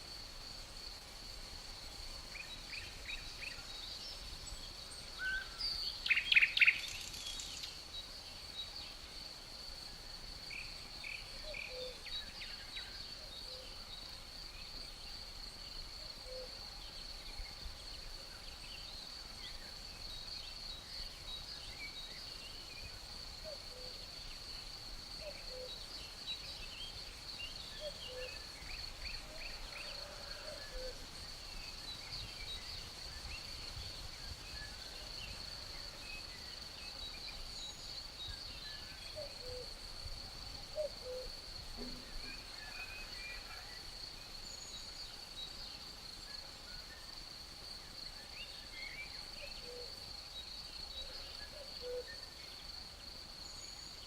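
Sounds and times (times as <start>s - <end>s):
faint breeze: 0.0s - 54.0s
songbirds chirping: 0.0s - 54.0s
crickets trilling: 9.2s - 54.0s.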